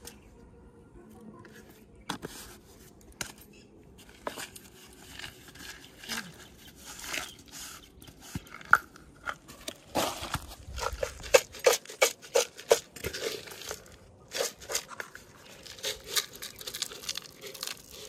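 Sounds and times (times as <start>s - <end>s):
contents rustling and scraping: 1.4s - 18.0s.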